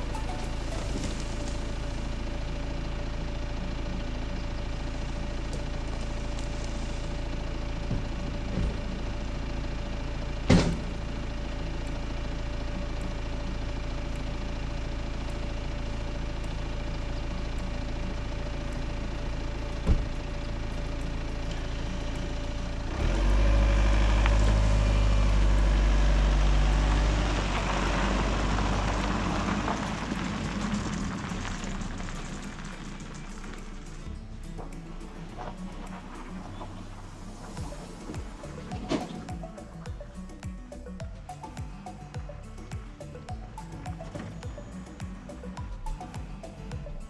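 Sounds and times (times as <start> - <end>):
motor vehicle engine running: 0.0 - 47.0.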